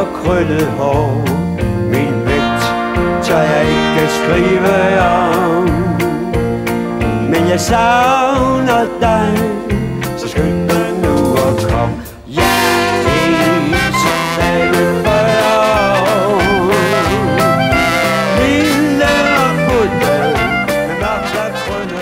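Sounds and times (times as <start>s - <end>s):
swing band music with brass: 0.0s - 22.0s.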